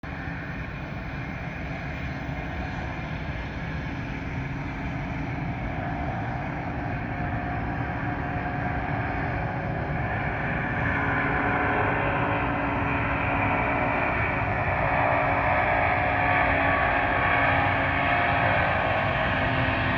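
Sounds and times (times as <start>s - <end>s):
distant jet engines roaring: 0.0s - 19.9s.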